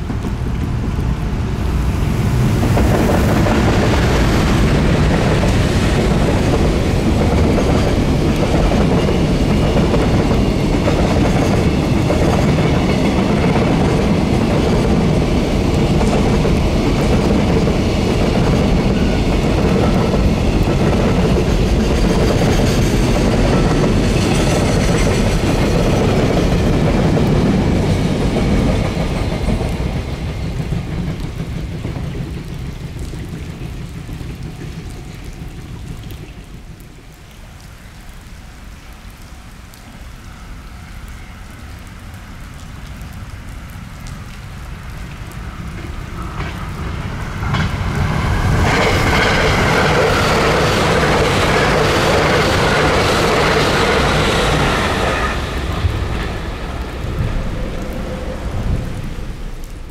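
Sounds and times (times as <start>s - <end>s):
rain hissing: 0.0s - 59.9s
train passing with wheel clatter: 0.0s - 59.9s.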